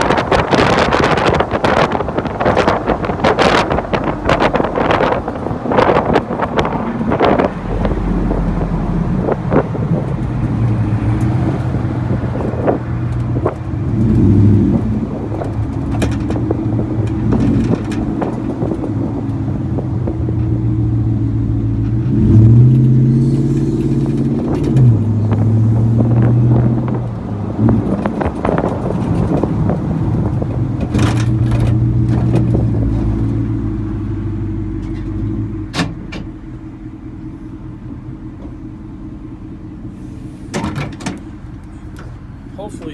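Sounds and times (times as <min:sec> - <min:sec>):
wind buffeting microphone: 0:00.0 - 0:35.2
truck exhaust rumbling: 0:00.0 - 0:42.9.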